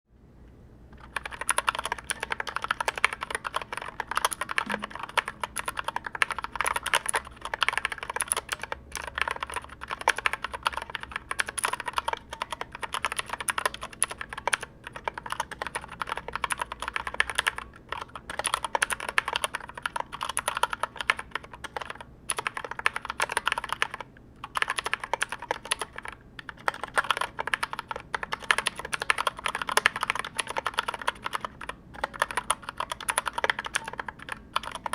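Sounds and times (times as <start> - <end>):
mechanical keyboard typing: 0.9 - 34.9.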